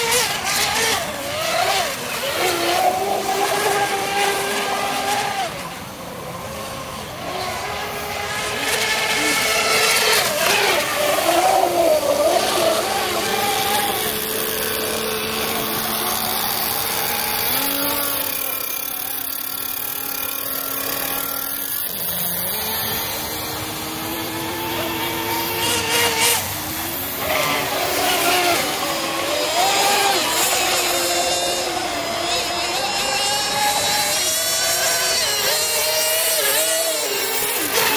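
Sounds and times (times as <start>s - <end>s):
model boat motor racing: 0.0s - 37.9s.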